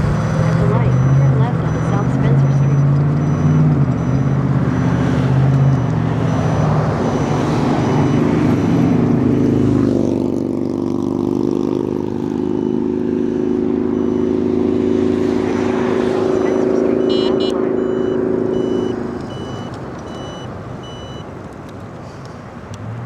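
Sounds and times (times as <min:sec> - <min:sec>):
traffic passing close by: 0:00.0 - 0:23.0.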